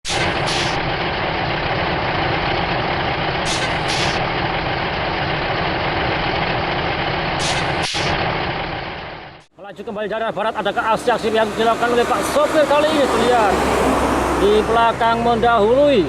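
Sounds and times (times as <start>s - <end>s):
heavy vehicle engine roaring: 0.0s - 16.0s.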